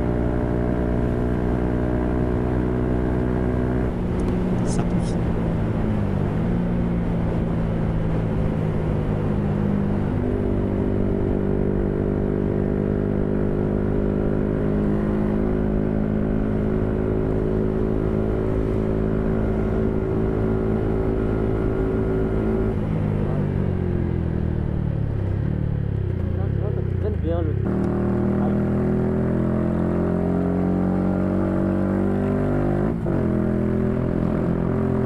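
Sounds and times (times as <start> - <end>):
motorcycle engine cruising: 0.0 - 35.0.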